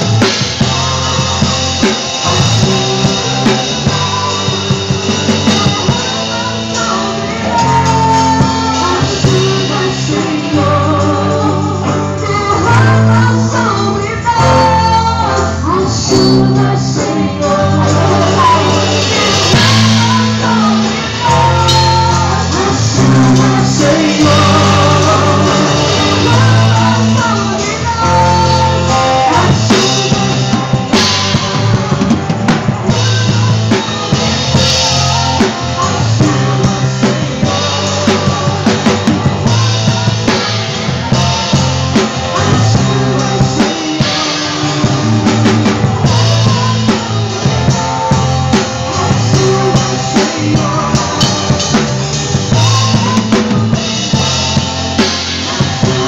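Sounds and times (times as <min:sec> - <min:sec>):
drum kit steady beat: 0:00.0 - 0:56.0
person singing: 0:00.0 - 0:56.0
sustained bass notes: 0:00.0 - 0:56.0.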